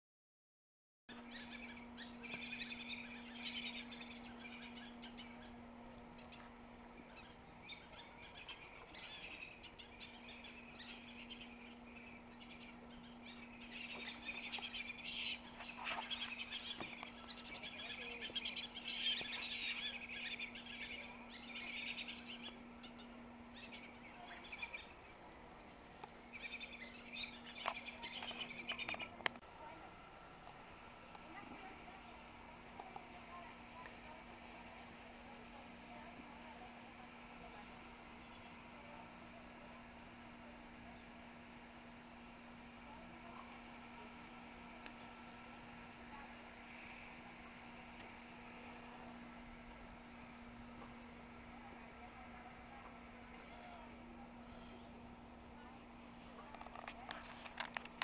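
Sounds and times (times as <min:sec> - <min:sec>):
birds chirping and twittering: 0:01.1 - 0:29.8, 0:31.1 - 0:58.0
faint steady hum: 0:01.1 - 0:58.0.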